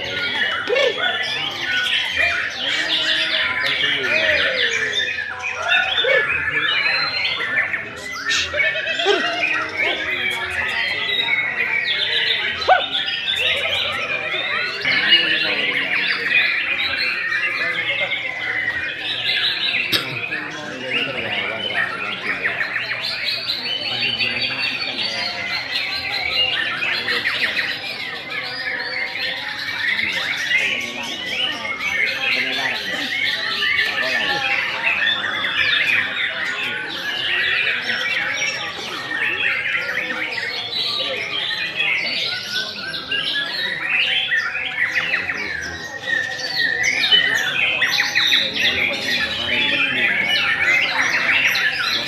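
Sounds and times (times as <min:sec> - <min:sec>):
songbirds singing whistled phrases: 0:00.0 - 0:52.0.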